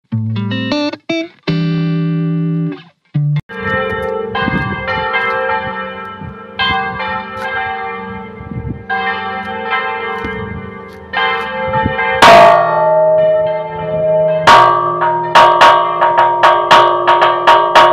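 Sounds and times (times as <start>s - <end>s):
church bells chiming: 3.5s - 17.9s.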